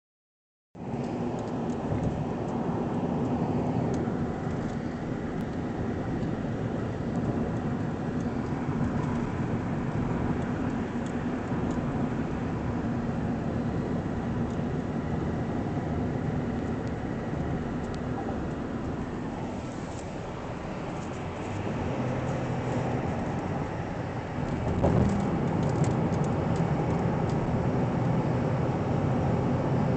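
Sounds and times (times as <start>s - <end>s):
car road noise at highway speed: 0.8s - 29.9s.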